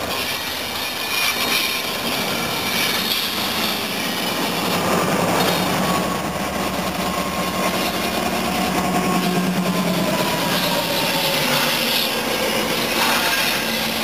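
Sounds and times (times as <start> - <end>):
diesel locomotive engine drone: 0.0 - 14.0
train cars rolling past: 0.0 - 14.0.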